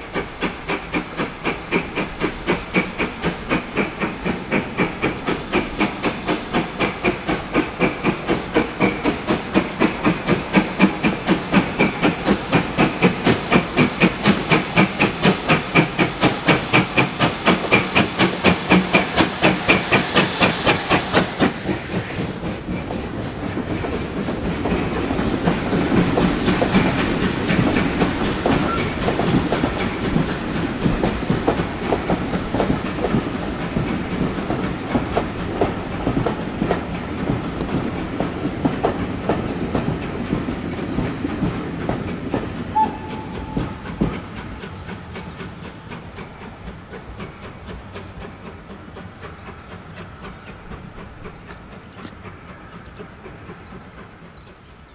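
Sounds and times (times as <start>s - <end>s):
steam locomotive exhaust beats: 0.0s - 54.9s
wheels clicking over rail joints: 0.2s - 54.8s.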